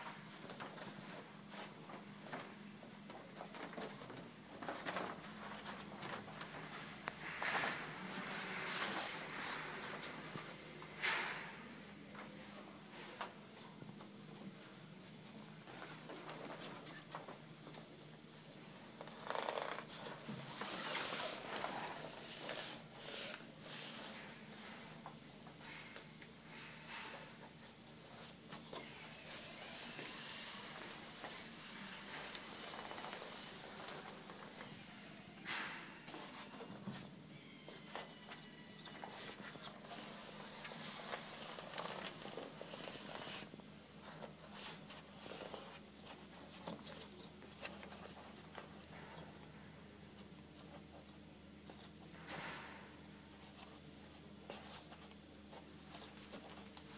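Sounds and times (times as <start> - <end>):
fabric rustling and scraping: 0.0 - 13.8, 14.6 - 37.2, 39.0 - 48.7.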